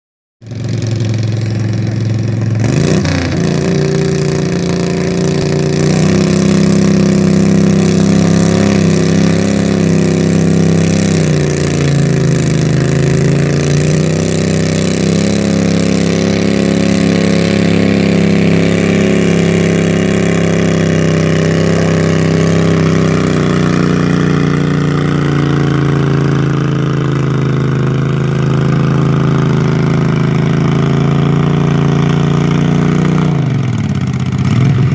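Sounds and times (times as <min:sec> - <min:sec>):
tractor engine running hard: 0:00.4 - 0:34.9.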